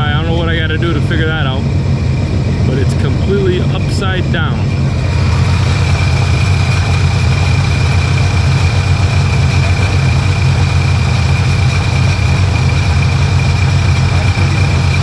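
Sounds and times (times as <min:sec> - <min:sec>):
jet ski engine running: 0:00.0 - 0:15.0
thin steady whine: 0:00.0 - 0:15.0.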